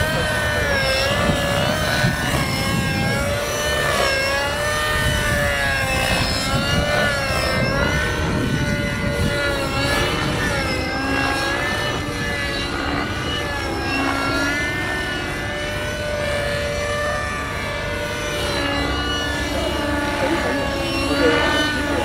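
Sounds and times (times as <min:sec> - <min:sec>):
model helicopter rotor and motor: 0:00.0 - 0:22.0.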